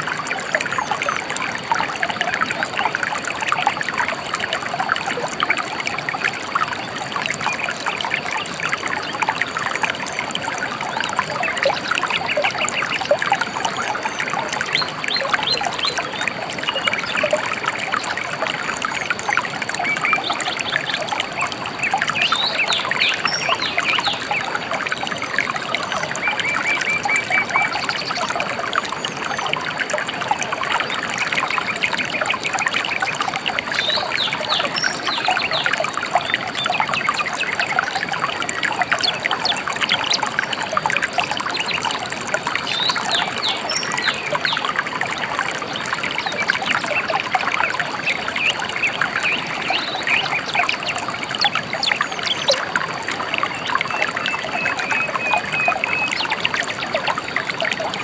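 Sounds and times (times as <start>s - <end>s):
river water babbling over stones: 0.0s - 58.0s
small birds chirping trills: 6.8s - 57.9s.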